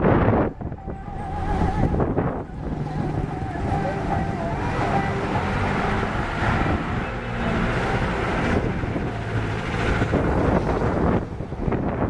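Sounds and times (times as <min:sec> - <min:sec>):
cars driving past: 0:00.0 - 0:12.0
pickup truck going by: 0:00.0 - 0:12.0
wind noise on microphone: 0:00.0 - 0:12.0.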